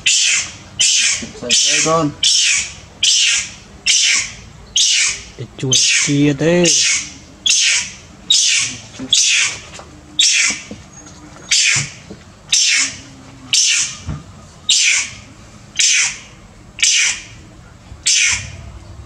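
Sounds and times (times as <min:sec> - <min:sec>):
monkey screaming: 0:00.0 - 0:09.6, 0:10.2 - 0:10.7, 0:11.5 - 0:14.0, 0:14.7 - 0:15.2, 0:15.8 - 0:17.4, 0:18.0 - 0:18.6.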